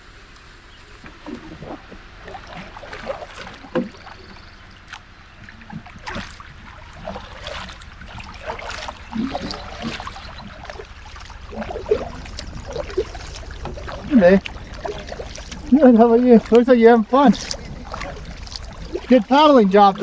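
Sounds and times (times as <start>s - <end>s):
canoe paddle splashing in water: 0.0s - 20.0s
water dripping and gurgling: 0.0s - 20.0s.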